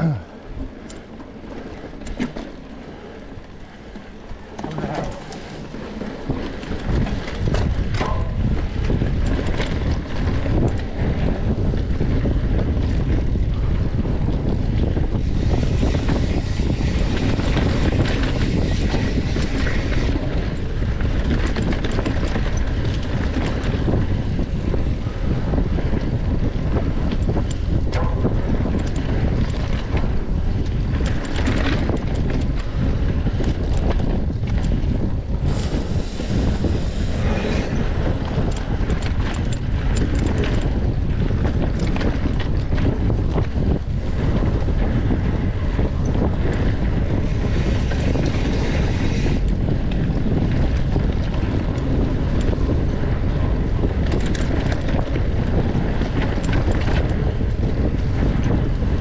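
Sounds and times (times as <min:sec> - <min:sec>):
wind buffeting microphone: 0:00.0 - 0:59.0
bicycle knocks and rattles: 0:00.4 - 0:59.0.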